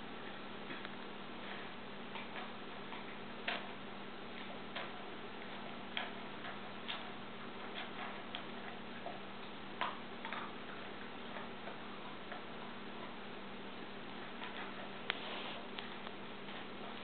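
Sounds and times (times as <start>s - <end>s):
dog crunching kibble: 0.1s - 17.0s.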